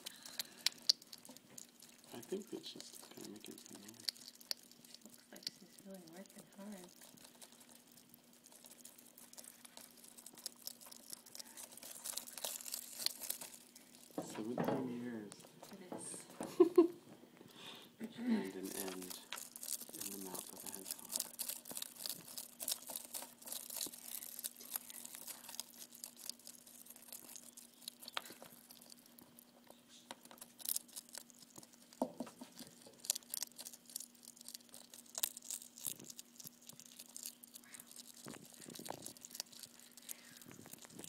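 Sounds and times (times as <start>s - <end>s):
hedgehog chewing crunching shell: 0.0s - 16.6s, 18.2s - 41.0s.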